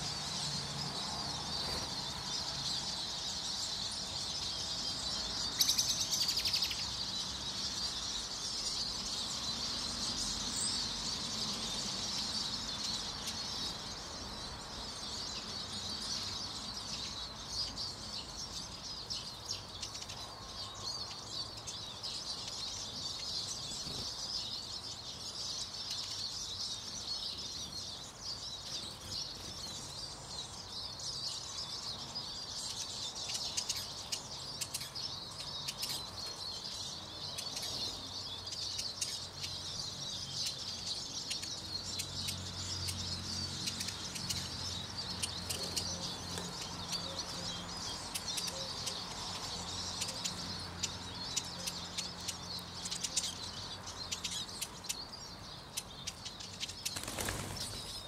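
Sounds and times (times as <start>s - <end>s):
flock of birds twittering: 0.0s - 58.0s.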